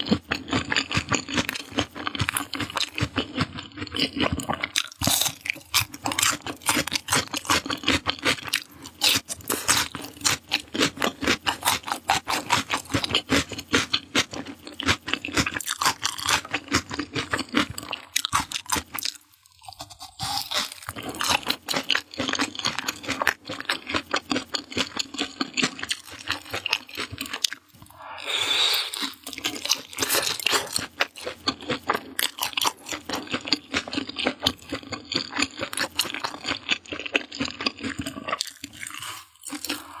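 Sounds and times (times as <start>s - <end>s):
chewing crunchy food: 0.0s - 40.0s.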